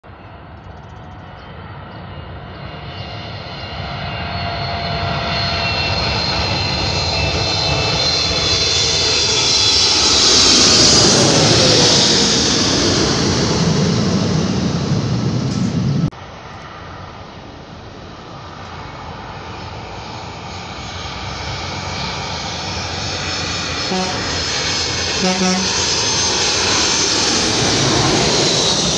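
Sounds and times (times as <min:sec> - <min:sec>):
jet airliner passing overhead: 0:00.1 - 0:28.9.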